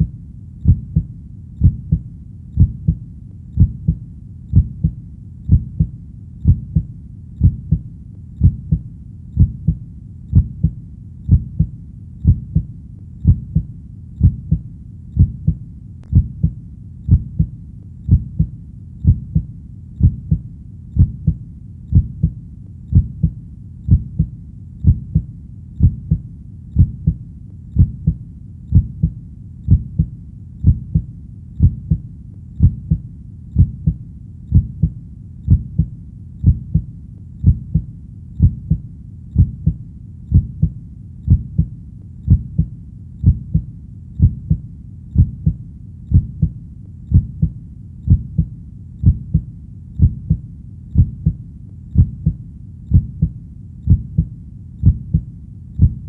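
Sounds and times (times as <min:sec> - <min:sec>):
heartbeat thumps: 0:00.0 - 0:27.2, 0:27.8 - 0:56.0.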